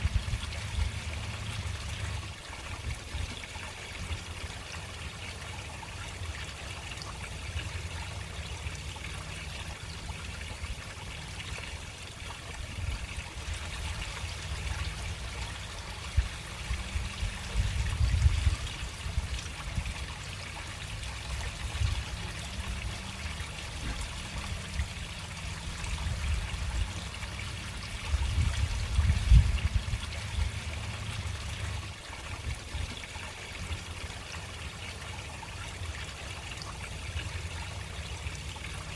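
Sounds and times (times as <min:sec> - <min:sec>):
water trickling through storm drain: 0:00.0 - 0:38.9.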